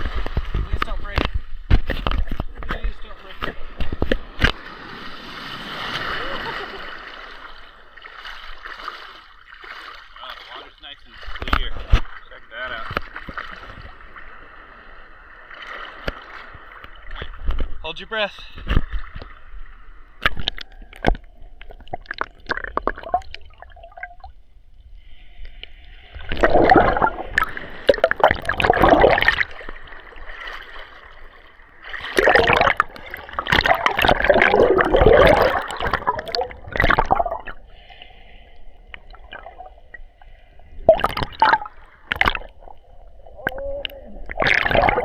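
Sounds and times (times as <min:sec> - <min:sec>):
rushes of water: 0:00.0 - 0:45.0
seawater gurgling and sloshing: 0:00.0 - 0:45.0.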